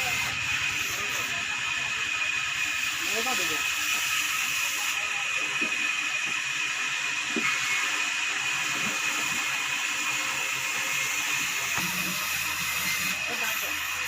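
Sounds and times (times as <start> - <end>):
sawmill machinery hiss and whine: 0.0 - 14.0.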